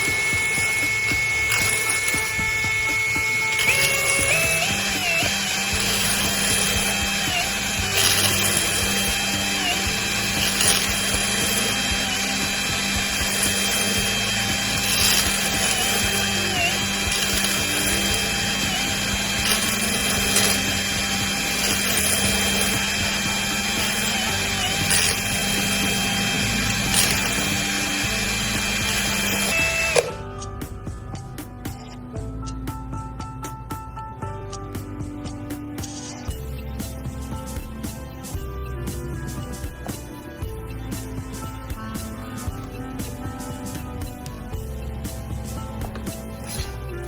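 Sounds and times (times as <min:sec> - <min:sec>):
small power tool motor running: 0:00.0 - 0:30.2, 0:39.2 - 0:47.0
background music with light beat: 0:00.0 - 0:47.0.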